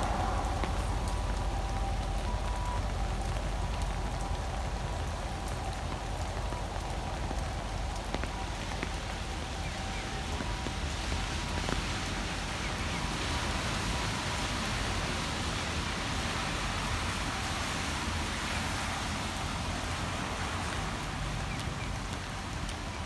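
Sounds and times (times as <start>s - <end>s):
raindrop impacts ticking: 0.0s - 14.6s, 17.4s - 23.0s
steady rain: 0.0s - 23.0s.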